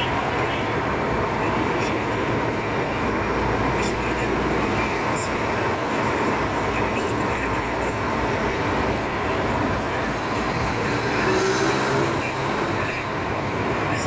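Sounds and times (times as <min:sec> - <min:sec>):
car engine: 0:00.0 - 0:14.0.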